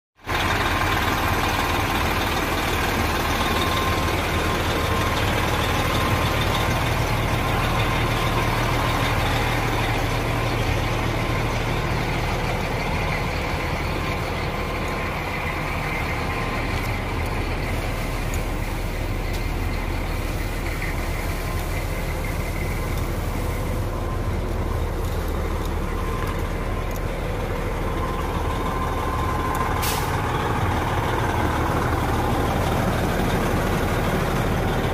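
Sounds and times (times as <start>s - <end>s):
diesel truck engine idling: 0.2s - 34.9s.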